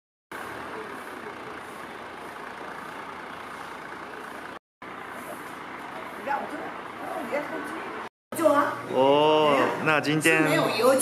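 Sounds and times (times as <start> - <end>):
street traffic hum: 0.3 - 11.0.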